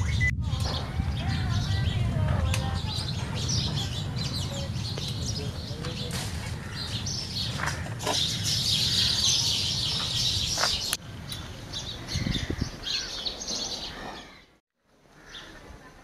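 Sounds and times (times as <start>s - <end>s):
birds chirping and twittering: 0.0s - 15.8s.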